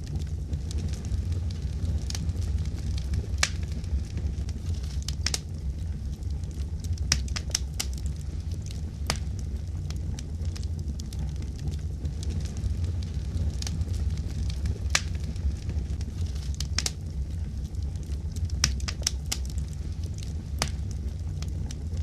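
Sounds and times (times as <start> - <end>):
low rumble: 0.0 - 22.0
wood fire crackling: 0.0 - 22.0.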